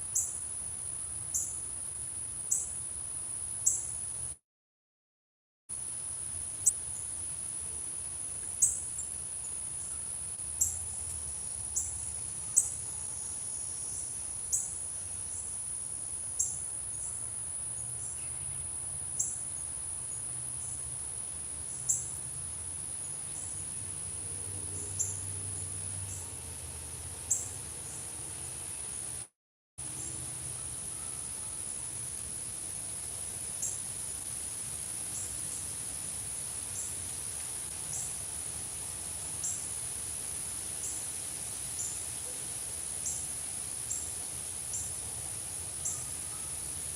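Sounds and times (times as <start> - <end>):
high-pitched insect chorus: 0.0 - 4.4, 5.8 - 26.4, 27.3 - 29.2, 29.8 - 46.9.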